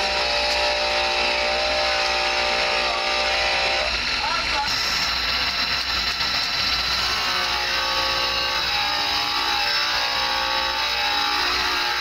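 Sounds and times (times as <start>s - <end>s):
grinding wheel whining: 0.0s - 12.0s.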